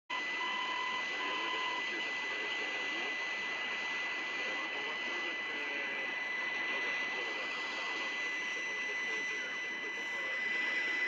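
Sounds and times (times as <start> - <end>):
faint radio programme: 0.1 - 11.0
radio hiss and static: 0.1 - 11.0.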